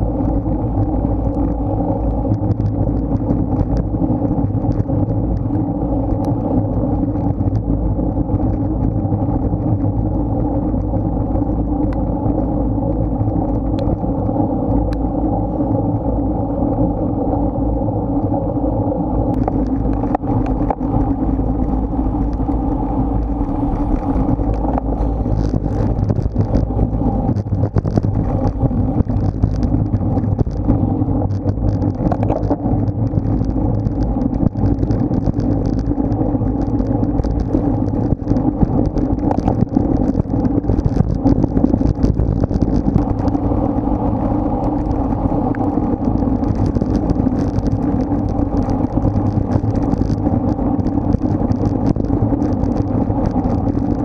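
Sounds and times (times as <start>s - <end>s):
road and tyre noise: 0.0s - 54.0s
wind rushing on microphone: 0.0s - 54.0s.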